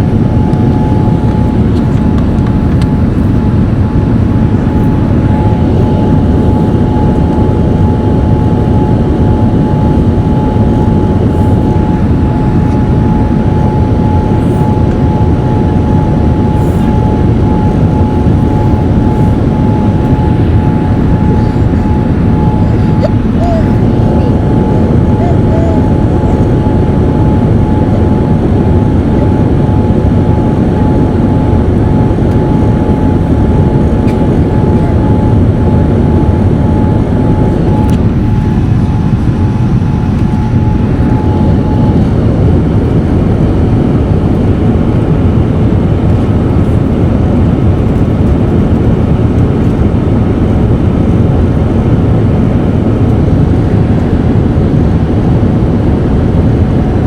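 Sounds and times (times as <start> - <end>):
jet engines roaring: 0.0 - 57.0
thin steady whine: 0.0 - 57.0.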